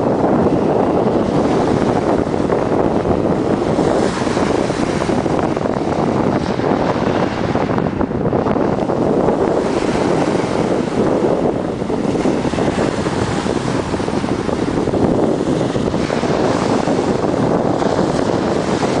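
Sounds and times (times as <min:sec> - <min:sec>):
wind buffeting microphone: 0:00.0 - 0:19.0
waves washing on pebble beach: 0:00.1 - 0:07.5, 0:08.7 - 0:19.0.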